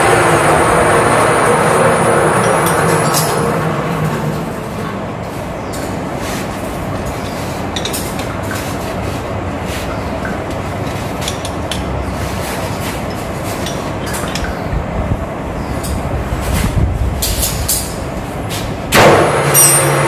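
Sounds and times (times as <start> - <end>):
rumbling workshop machinery: 0.0 - 20.0.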